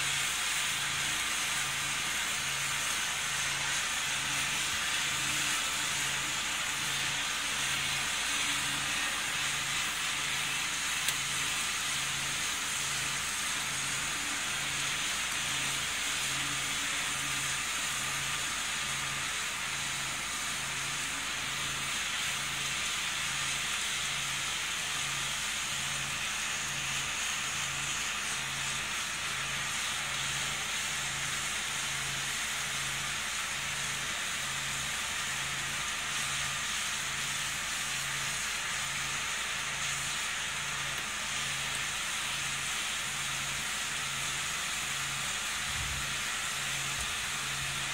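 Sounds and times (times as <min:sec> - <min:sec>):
heavy rain on paving: 0:00.0 - 0:47.9.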